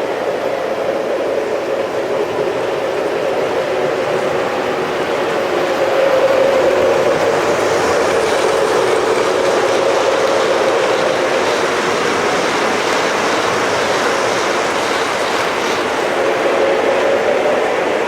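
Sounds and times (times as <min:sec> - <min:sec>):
small wheels rattling on track: 0:00.0 - 0:18.0.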